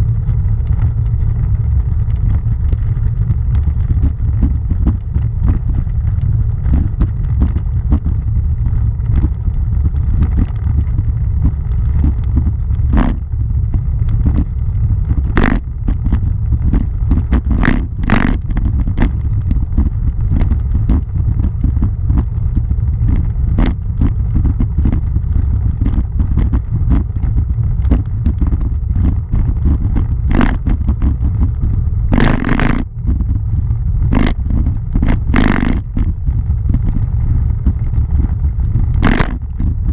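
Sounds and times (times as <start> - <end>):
bicycle rumbling over cobblestones: 0.0 - 39.9
bicycle knocks and rattles: 2.2 - 8.2, 9.0 - 33.4, 34.1 - 39.9.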